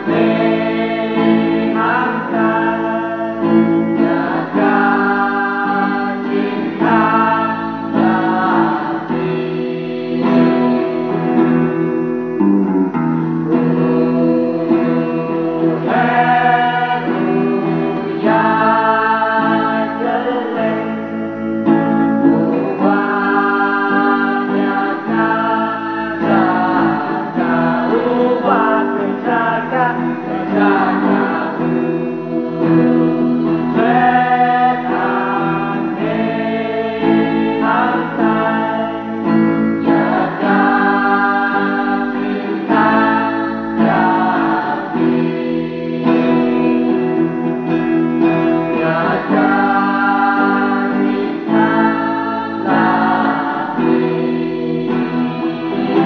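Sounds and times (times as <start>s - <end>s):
choir singing a hymn: 0.0s - 12.5s, 13.2s - 56.0s
strummed electric guitar: 0.0s - 56.0s.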